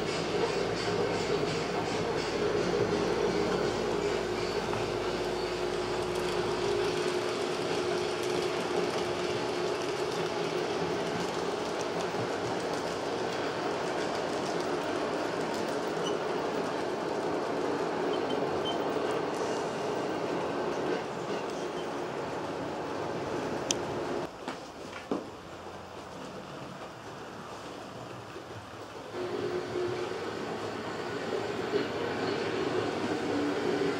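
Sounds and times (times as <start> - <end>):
wheels rolling on rails: 0.0 - 33.9.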